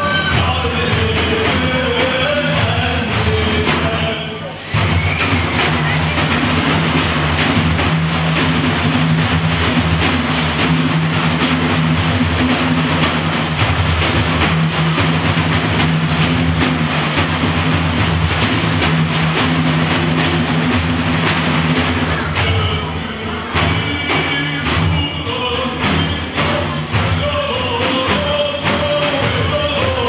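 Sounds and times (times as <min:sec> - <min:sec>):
frame drums played together: 0:00.0 - 0:30.0.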